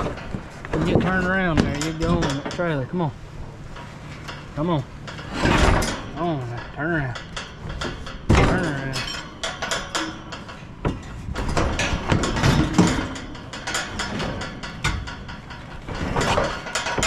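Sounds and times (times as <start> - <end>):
steel pipe panels and gate rattling: 0.0 - 17.0.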